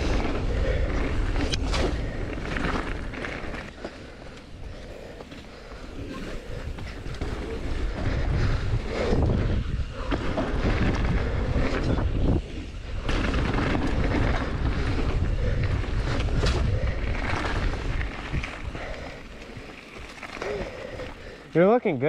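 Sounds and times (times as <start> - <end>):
wind buffeting microphone: 0.0 - 21.5
bike rattling: 0.0 - 22.0
tyres rumbling on dirt: 0.0 - 22.0.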